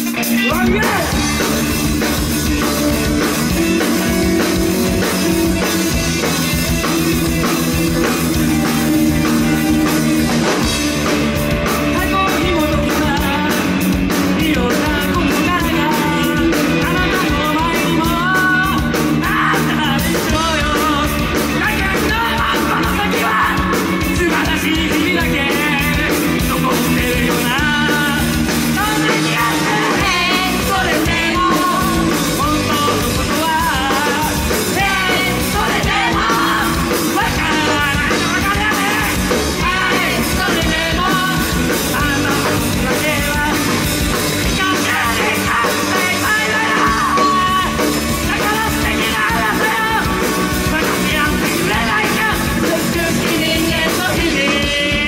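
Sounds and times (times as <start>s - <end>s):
man singing and shouting: 0.0s - 6.5s, 7.1s - 55.0s
drums driving beat: 0.0s - 55.0s
live rock band playing: 0.0s - 55.0s.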